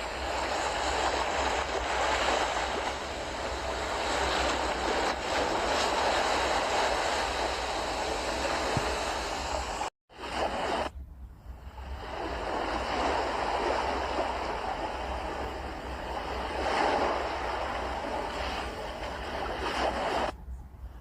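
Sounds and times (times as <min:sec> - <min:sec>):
water rushing: 0:00.0 - 0:10.9, 0:11.6 - 0:20.3.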